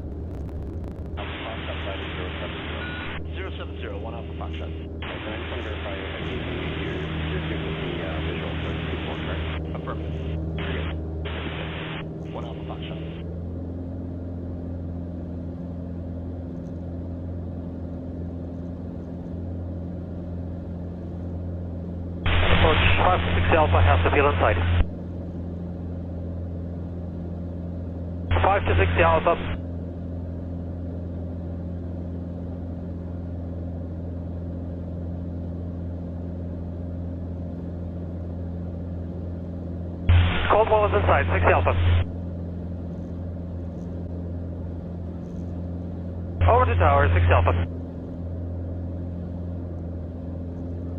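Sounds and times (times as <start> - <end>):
aircraft engine and propeller droning: 0.0 - 50.9.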